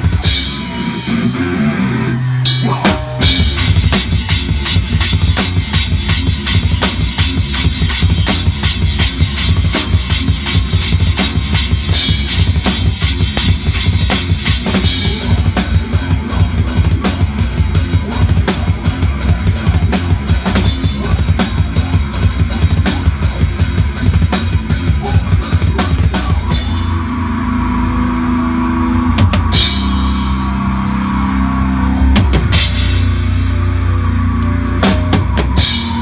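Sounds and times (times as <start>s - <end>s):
fast rock drumming: 0.0s - 36.0s
rock band holding low notes: 0.0s - 36.0s.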